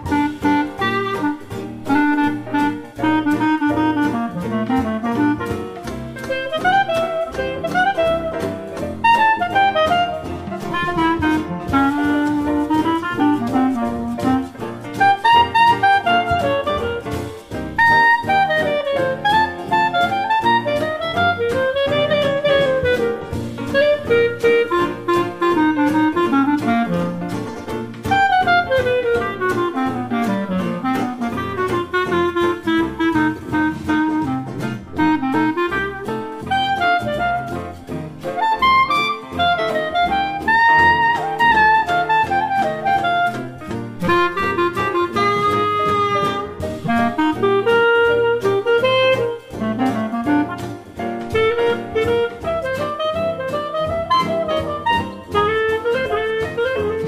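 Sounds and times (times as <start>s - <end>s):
instrumental music with steady beat: 0.0s - 57.0s.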